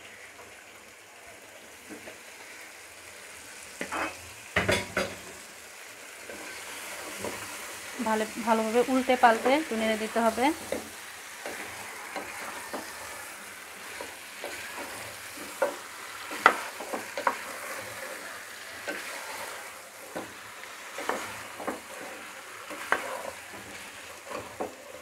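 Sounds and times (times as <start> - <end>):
meat sizzling in oil: 0.0 - 25.0
wooden spatula scraping and knocking: 3.8 - 5.4, 6.2 - 25.0.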